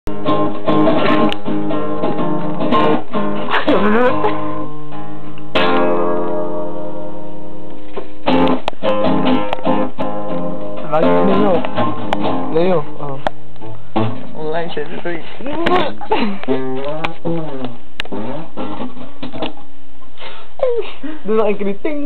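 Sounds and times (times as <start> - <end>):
acoustic guitar strumming: 0.1 - 19.7.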